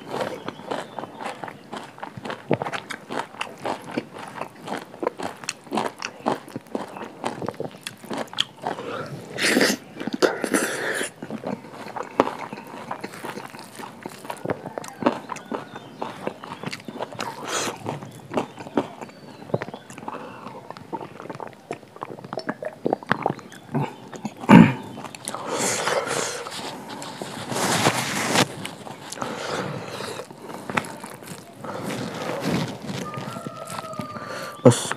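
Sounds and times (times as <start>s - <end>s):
person chewing crunchy food: 0.0s - 34.9s.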